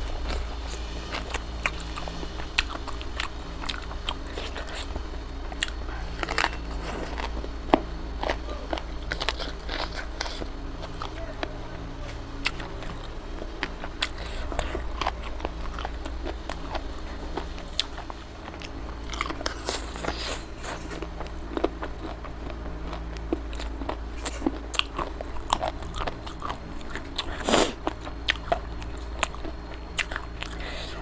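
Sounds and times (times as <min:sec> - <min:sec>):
wet chewing and lip smacking: 0:00.2 - 0:11.5, 0:12.4 - 0:31.0.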